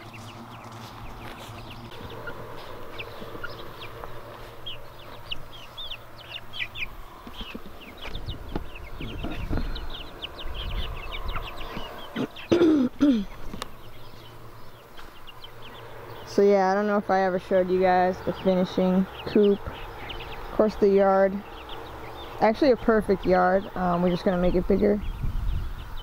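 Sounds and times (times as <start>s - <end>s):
chickens chirping: 0.0s - 26.0s.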